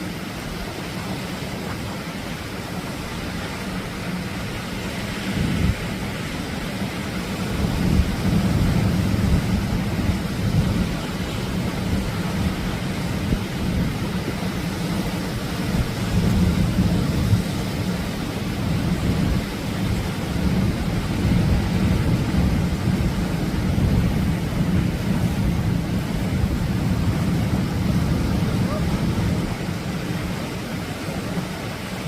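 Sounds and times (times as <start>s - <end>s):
ocean waves breaking on shore: 0.0s - 32.0s.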